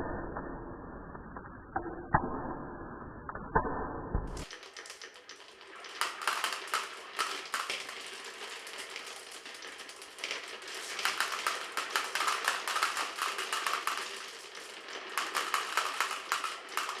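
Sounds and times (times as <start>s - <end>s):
marbles clicking through marble run: 3.3s - 17.0s.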